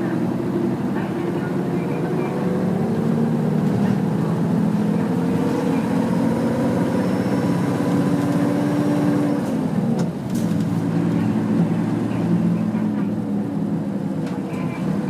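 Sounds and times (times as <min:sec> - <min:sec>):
bus diesel engine accelerating: 0:00.0 - 0:15.0.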